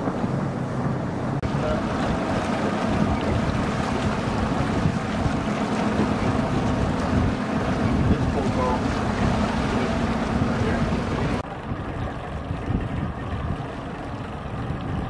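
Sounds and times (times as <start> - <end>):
outboard motor running: 0.0 - 15.0
water rushing against hull: 0.0 - 15.0
wind on microphone: 0.0 - 15.0.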